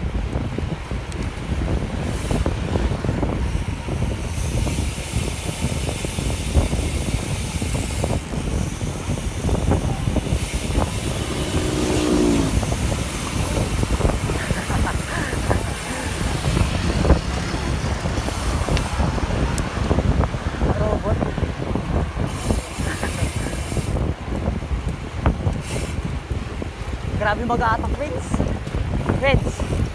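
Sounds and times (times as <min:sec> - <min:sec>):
road rumble: 0:00.0 - 0:29.9
wind buffeting microphone: 0:00.0 - 0:29.9.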